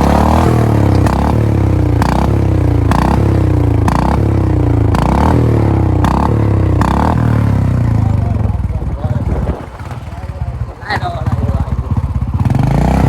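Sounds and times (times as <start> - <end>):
exhaust pops: 0.0 - 12.7
motorcycle engine revving: 0.0 - 13.0.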